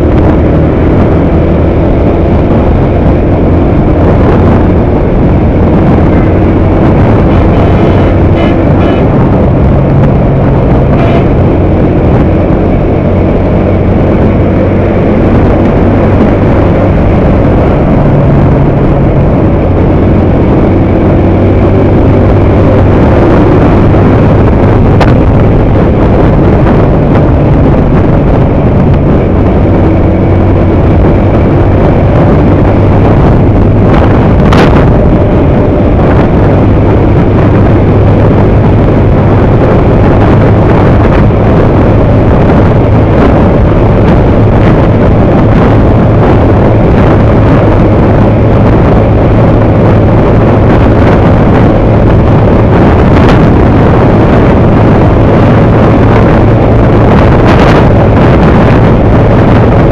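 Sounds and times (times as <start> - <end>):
motorcycle engine hum: 0.0 - 59.9
wind rumble on microphone: 0.0 - 59.9.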